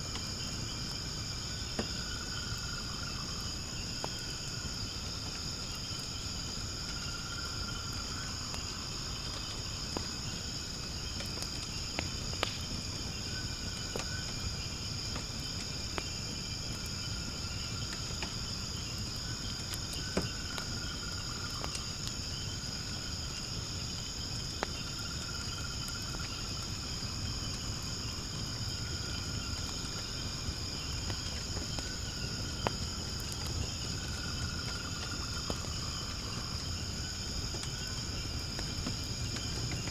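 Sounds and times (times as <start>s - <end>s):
firewood fire crackling: 0.0s - 39.9s
high-pitched insect chorus: 0.0s - 39.9s
low insect trill: 0.0s - 39.9s.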